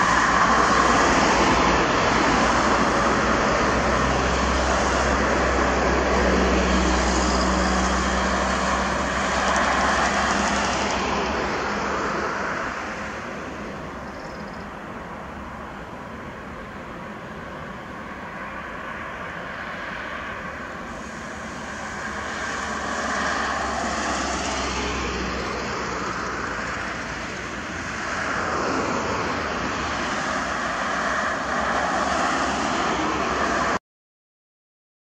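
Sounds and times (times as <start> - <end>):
jet engines at takeoff thrust: 0.0 - 33.8.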